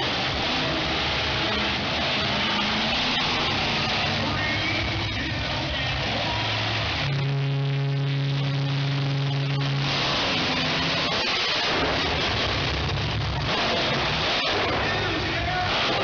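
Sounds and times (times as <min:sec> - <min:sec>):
constant rushing noise: 0:00.0 - 0:16.0
monster truck engine running hard: 0:00.0 - 0:16.0.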